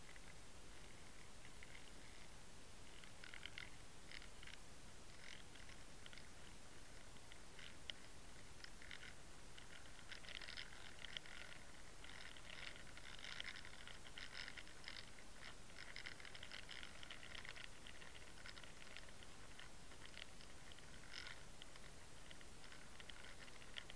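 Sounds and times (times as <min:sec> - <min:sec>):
fast irregular clicks and crackles: 0:00.0 - 0:23.9.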